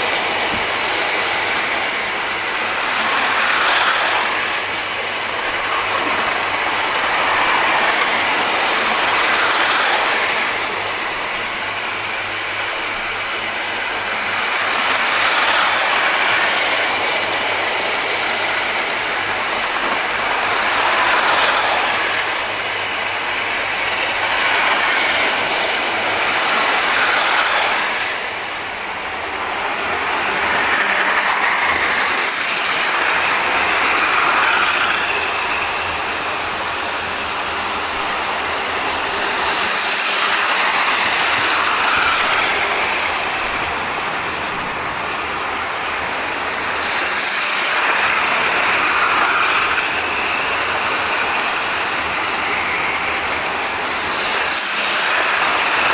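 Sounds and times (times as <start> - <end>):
model trains whirring on rails: 0.0 - 55.9.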